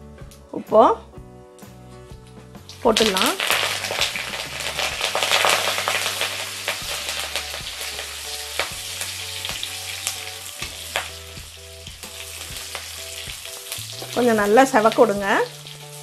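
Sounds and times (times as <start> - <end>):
garlic sizzling in hot oil: 2.6 - 16.0.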